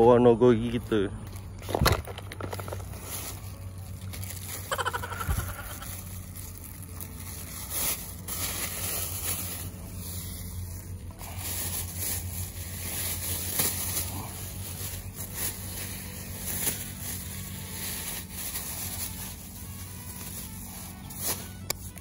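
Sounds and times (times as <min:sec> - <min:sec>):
steady low hum: 0:00.0 - 0:22.0
plastic bag crinkling: 0:00.7 - 0:22.0.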